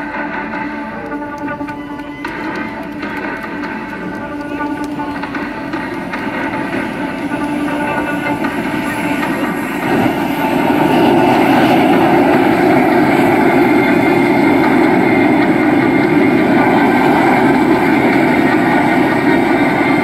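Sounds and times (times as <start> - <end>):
high turbine whine: 0.0 - 20.0
jet engines running: 0.0 - 20.0.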